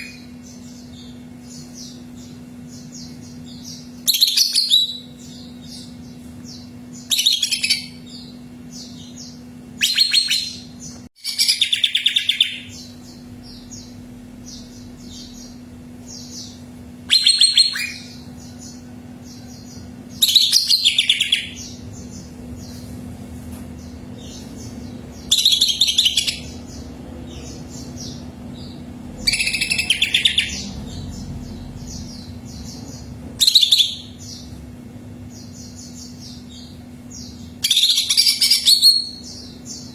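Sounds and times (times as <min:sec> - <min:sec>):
bird singing high rapid phrases: 0:00.0 - 0:22.8, 0:23.8 - 0:39.9
faint steady hum: 0:00.0 - 0:39.9.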